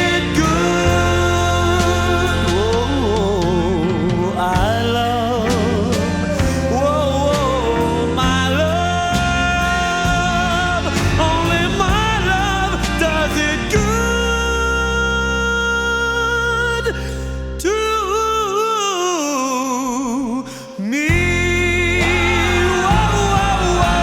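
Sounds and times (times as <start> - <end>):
full band backing: 0.0 - 17.6, 21.1 - 24.0
wordless vocal melody: 0.0 - 24.0.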